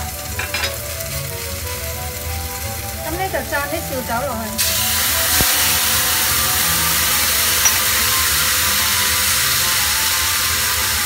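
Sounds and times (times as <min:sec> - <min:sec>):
wine sizzling in a hot wok: 0:00.0 - 0:11.0.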